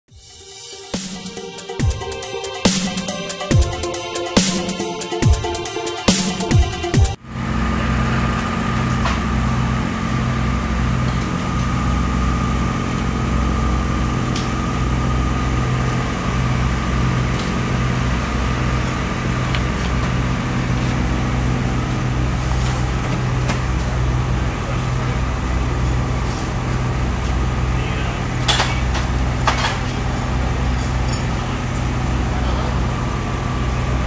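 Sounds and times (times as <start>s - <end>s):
motor humming: 1.6s - 34.0s.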